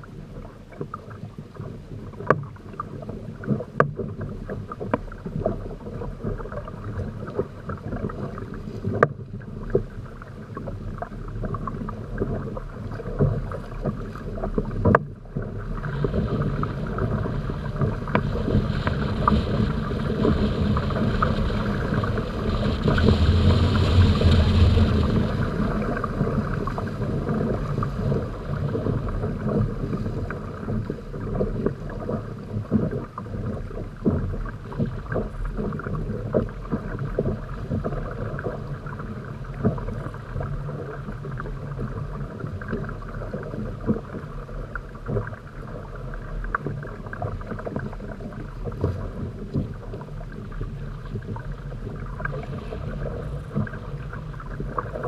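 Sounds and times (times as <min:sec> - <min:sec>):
water slapping against boat hulls: 0:00.7 - 0:55.0
splashes and knocks: 0:02.2 - 0:55.0.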